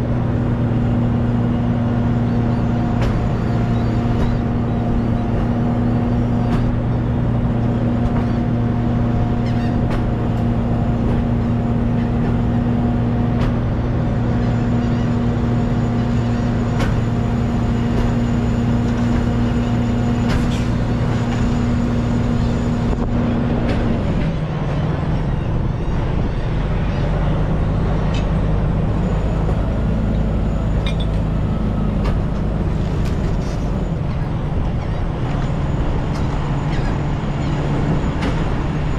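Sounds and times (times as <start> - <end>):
road noise: 0.0 - 38.9
truck engine running: 0.0 - 38.9.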